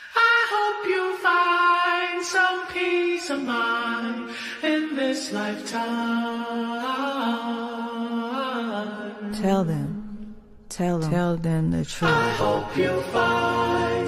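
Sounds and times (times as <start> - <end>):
slow song with singing voice: 0.0 - 10.7, 11.8 - 14.0.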